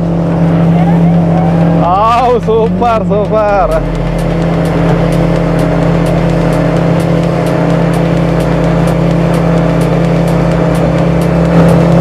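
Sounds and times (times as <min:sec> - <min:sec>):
speed boat engine: 0:00.0 - 0:12.0
high ticking: 0:01.8 - 0:12.0.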